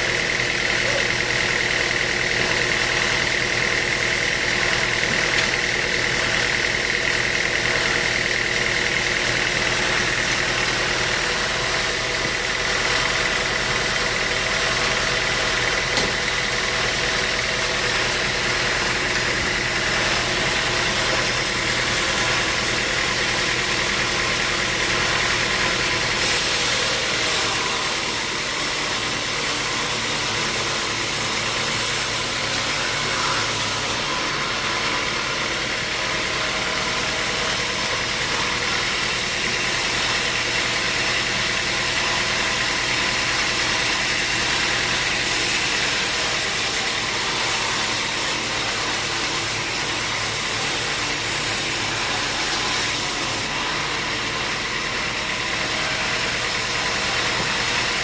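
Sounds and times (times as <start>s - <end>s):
sawmill motor drone: 0.0s - 58.0s.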